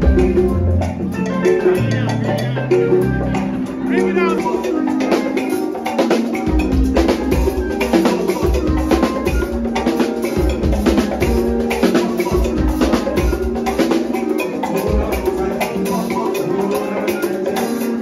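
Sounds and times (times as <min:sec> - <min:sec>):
drum kit played hard: 0:00.0 - 0:18.0
live band music: 0:00.0 - 0:18.0.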